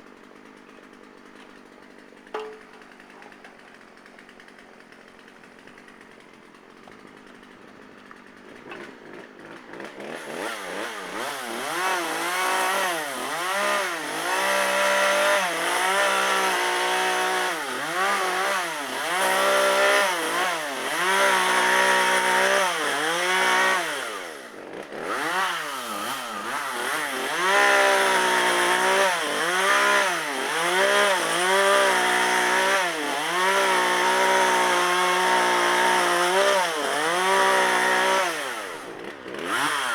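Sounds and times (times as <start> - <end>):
chainsaw revving: 0.2 - 39.9.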